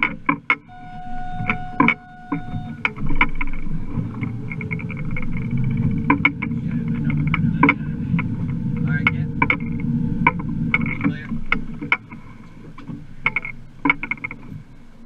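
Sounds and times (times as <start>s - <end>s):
boat low rumble: 0.0s - 15.0s
held steady tone: 0.0s - 15.0s.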